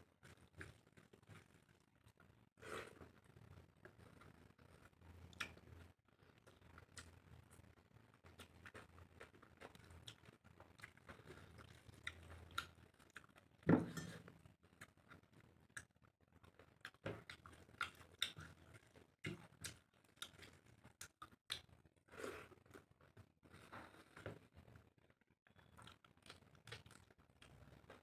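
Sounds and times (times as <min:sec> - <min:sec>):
person chewing food: 0:00.2 - 0:24.7, 0:25.5 - 0:28.0.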